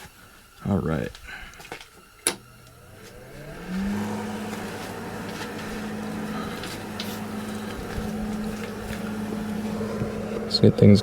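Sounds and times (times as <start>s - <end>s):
electric motor humming: 1.5s - 11.0s.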